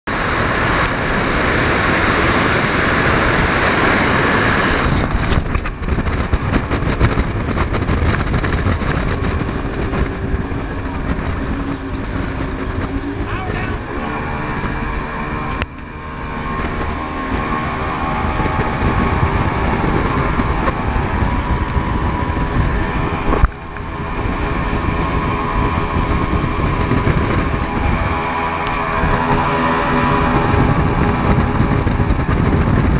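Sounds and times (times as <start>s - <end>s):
outboard engine drone: 0.0s - 32.9s
wind: 0.0s - 32.9s
water rushing: 0.1s - 32.9s.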